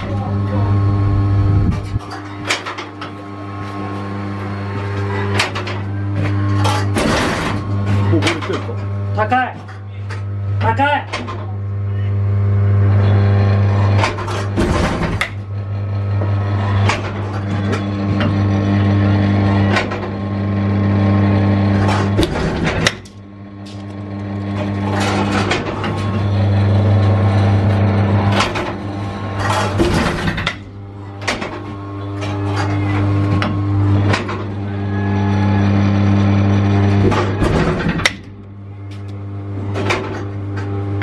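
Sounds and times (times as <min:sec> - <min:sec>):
electric machine hum: 0:00.0 - 0:41.0.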